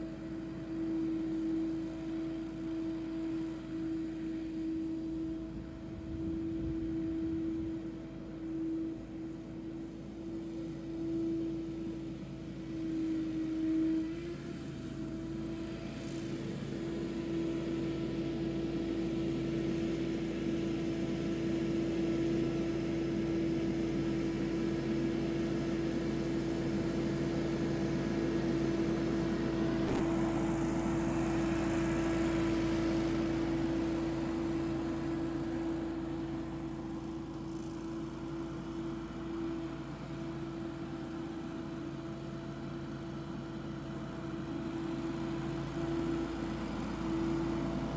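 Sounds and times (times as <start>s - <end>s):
leaf blower engine hum: 0.0s - 47.9s.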